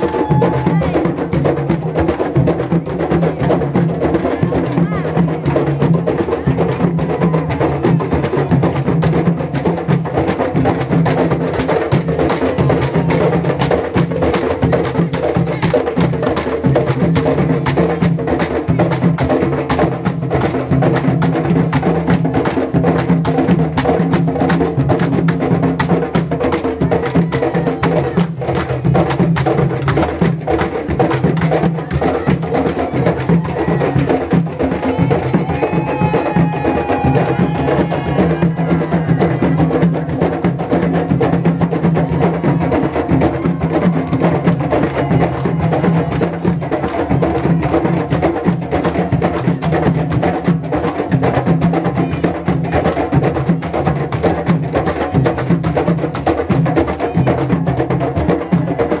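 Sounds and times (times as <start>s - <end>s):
hand drums fast rhythm: 0.0s - 59.0s.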